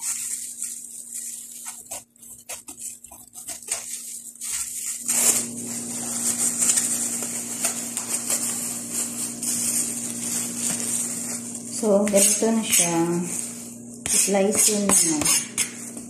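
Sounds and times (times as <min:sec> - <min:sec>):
steady hum with hiss: 0:00.0 - 0:16.0.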